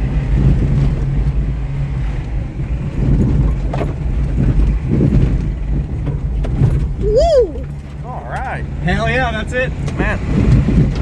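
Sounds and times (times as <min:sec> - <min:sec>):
car engine running low: 0:00.0 - 0:11.0.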